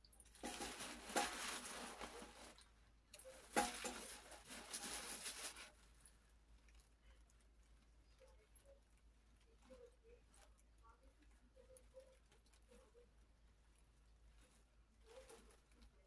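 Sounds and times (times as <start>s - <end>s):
rustling handling noise: 0.2s - 16.0s.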